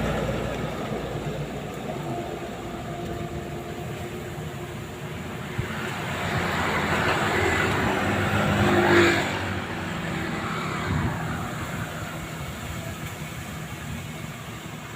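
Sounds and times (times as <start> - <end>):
vehicle passing by: 0.0 - 14.0.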